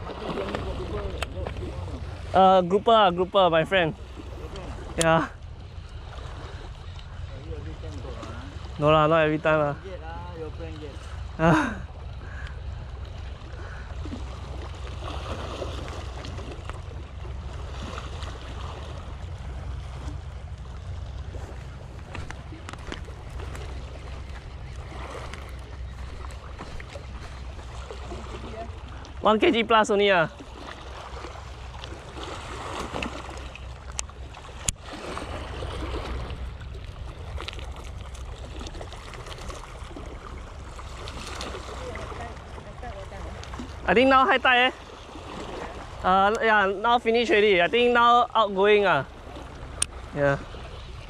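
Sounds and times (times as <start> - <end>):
sea water lapping on rocks: 0.0 - 51.0.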